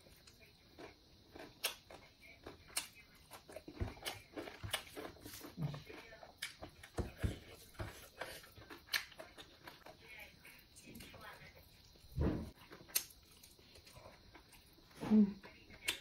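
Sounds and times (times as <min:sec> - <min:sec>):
chewing and mouth smacks: 0:00.2 - 0:10.0, 0:11.7 - 0:14.9.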